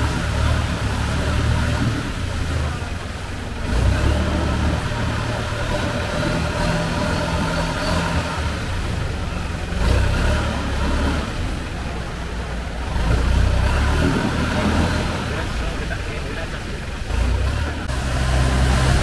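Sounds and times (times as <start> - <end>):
boat engine hum: 0.0 - 19.0.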